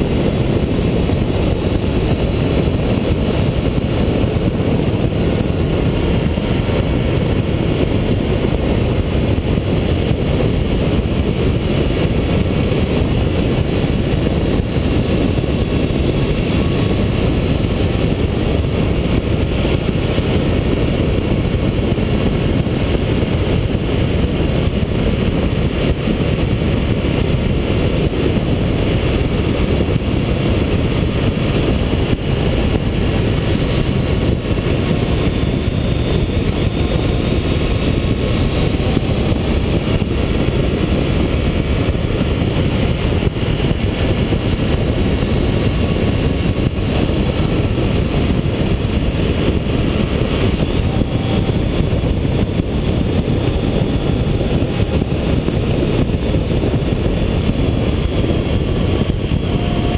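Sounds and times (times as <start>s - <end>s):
wind rumble on camera: 0.0s - 59.9s.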